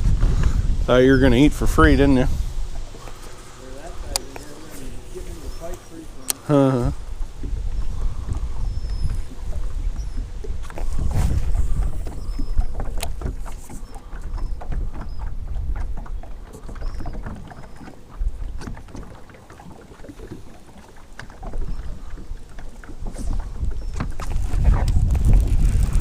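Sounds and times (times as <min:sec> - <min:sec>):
waves slapping boat hull: 0:00.0 - 0:26.0
wind buffeting microphone: 0:00.0 - 0:26.0.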